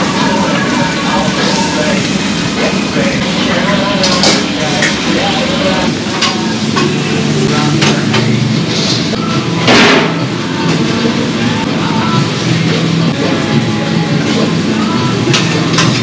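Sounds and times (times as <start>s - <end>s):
indistinct voices: 0.0s - 16.0s.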